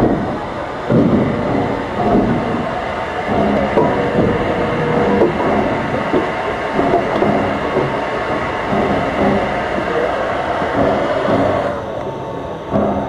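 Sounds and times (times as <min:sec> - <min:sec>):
steady whistle tone: 0:00.0 - 0:13.0
steam locomotive puffs and hiss: 0:00.0 - 0:13.0.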